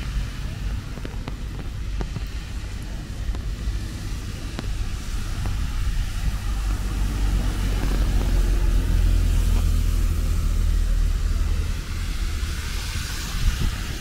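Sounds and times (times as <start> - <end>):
motor vehicle rumble: 0.0 - 14.0
rain falling: 0.0 - 14.0.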